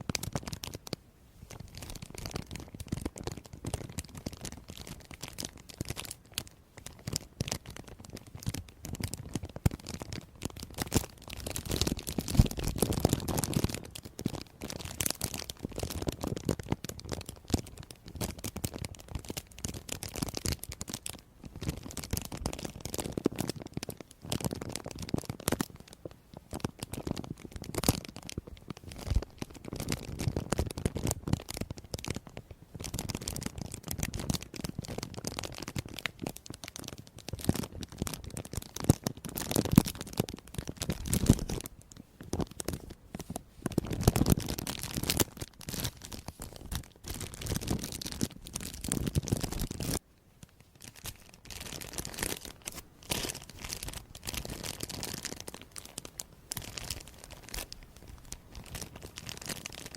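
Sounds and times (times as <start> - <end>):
crisp crackling and crinkling: 0.0 - 59.9.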